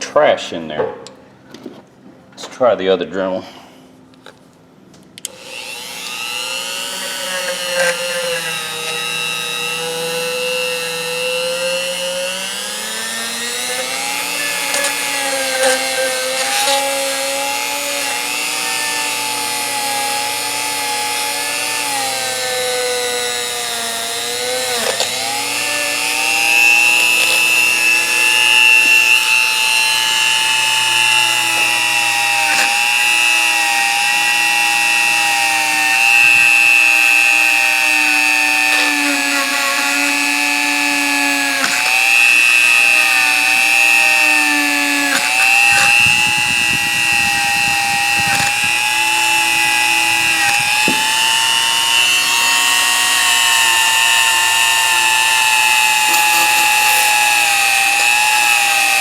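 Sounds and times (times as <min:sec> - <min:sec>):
rotary tool whining on steel: 0:05.2 - 0:59.0.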